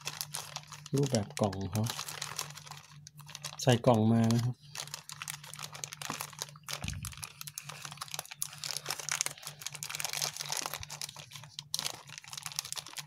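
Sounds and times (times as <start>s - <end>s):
plastic mailer bag crinkling: 0.0s - 13.0s.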